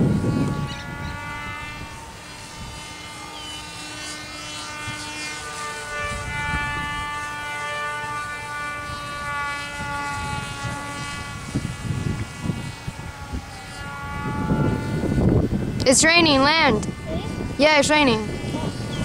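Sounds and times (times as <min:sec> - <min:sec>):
model airplane motor whining: 0:00.0 - 0:19.0
wind buffeting microphone: 0:00.0 - 0:19.0.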